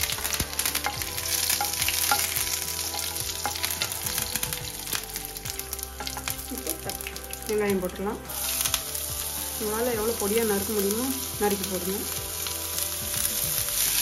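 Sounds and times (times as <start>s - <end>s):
seeds sizzling and crackling in oil: 0.0s - 14.0s
spatula stirring in frying pan: 0.0s - 14.0s.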